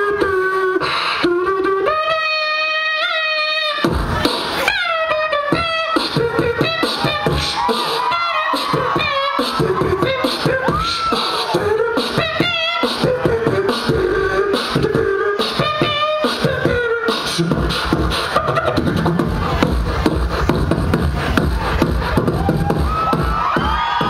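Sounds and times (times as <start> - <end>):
beatboxing drum hits: 0.0 - 24.0
deep bass beat: 3.8 - 24.0.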